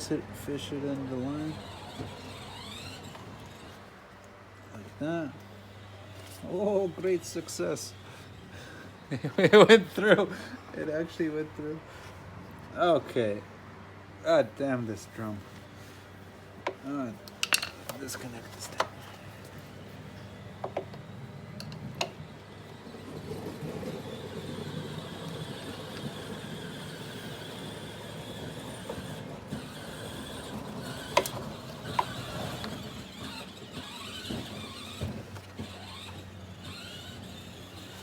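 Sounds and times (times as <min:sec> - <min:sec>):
electric winch motor whining: 0:00.0 - 0:12.1, 0:15.0 - 0:38.0.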